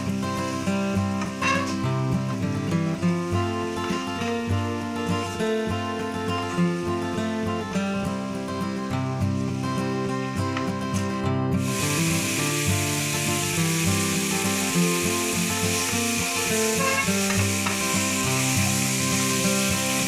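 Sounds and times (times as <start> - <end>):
chicken sizzling in hot oil: 0.0 - 10.3, 11.6 - 20.0
background music: 0.0 - 20.0.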